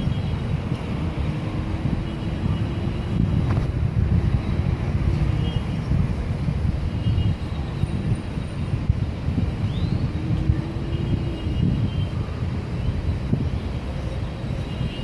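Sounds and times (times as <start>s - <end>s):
rumble of street traffic: 0.0s - 15.0s
wind buffeting microphone: 0.0s - 15.0s.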